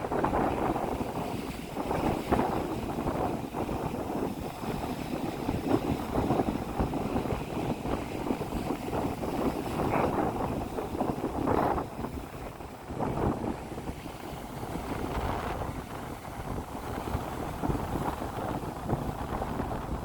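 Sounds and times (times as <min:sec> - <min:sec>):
waves breaking on beach: 0:00.0 - 0:20.0
wind buffeting microphone: 0:00.0 - 0:20.0.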